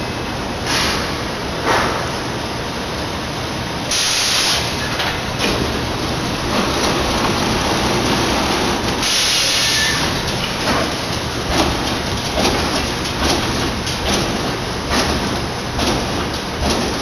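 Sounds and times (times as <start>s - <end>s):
machinery rumble: 0.0s - 17.0s.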